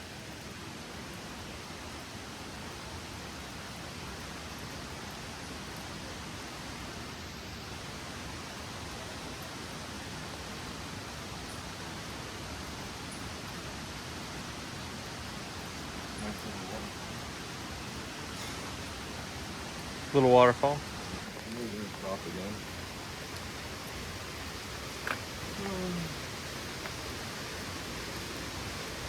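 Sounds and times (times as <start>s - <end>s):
falling water rushing: 0.0s - 29.0s.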